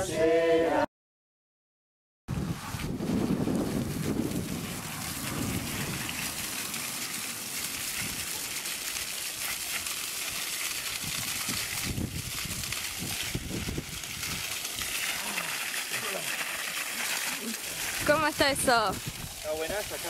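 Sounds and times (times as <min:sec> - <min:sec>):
hose water spraying and splashing: 0:02.3 - 0:20.0.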